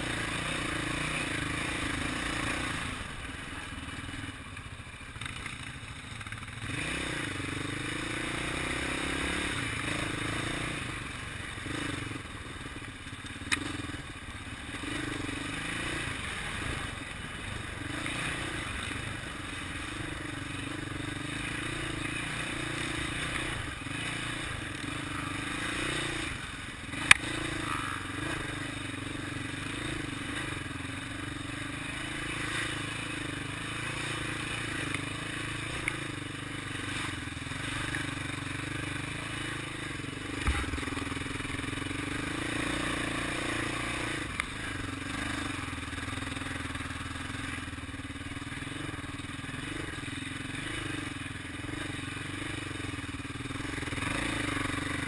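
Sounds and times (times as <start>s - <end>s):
quad engine running: 0.0s - 55.0s.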